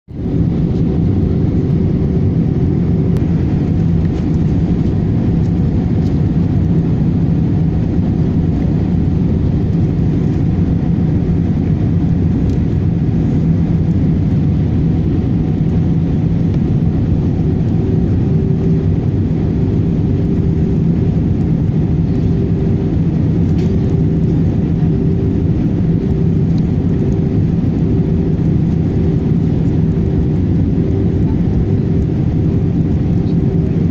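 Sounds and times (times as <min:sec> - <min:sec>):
jet airliner engine drone: 0:00.1 - 0:33.9
low hum: 0:00.1 - 0:33.9.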